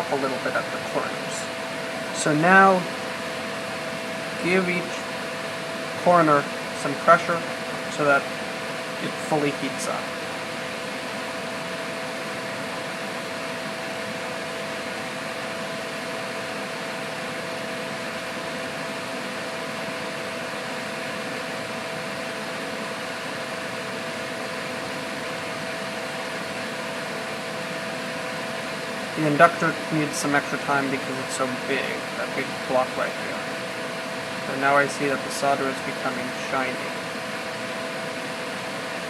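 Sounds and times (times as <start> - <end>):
fan running: 0.0 - 39.0.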